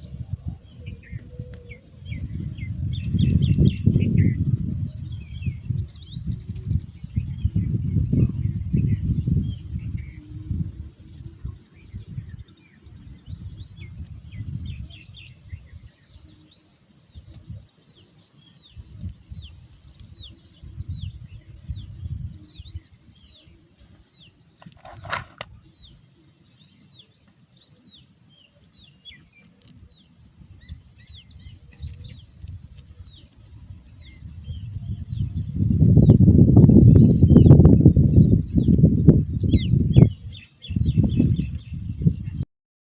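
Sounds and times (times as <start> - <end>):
small birds chirping: 0.0 - 42.4.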